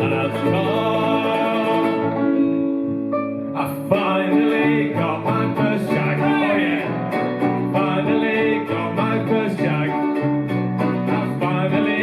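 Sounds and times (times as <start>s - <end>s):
person singing: 0.0s - 2.7s, 3.5s - 12.0s
strummed acoustic guitars waltz: 0.0s - 12.0s.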